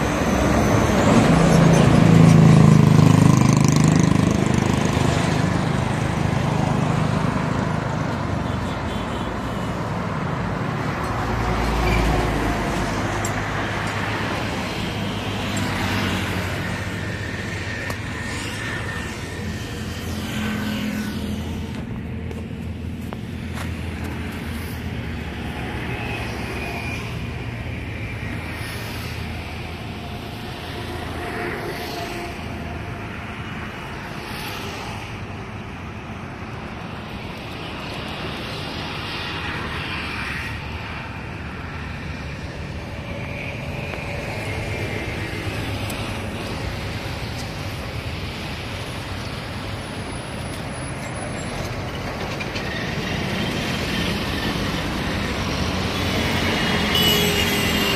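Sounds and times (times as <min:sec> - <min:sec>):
road traffic rumbling: 0:00.0 - 0:57.9.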